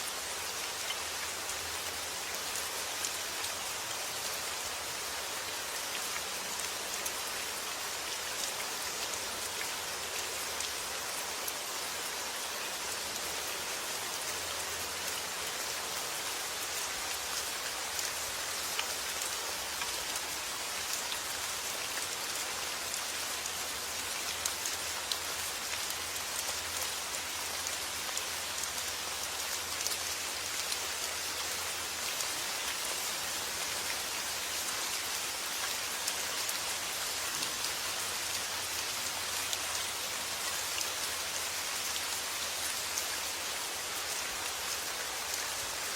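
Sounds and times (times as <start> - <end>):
rain pattering: 0.0 - 45.9.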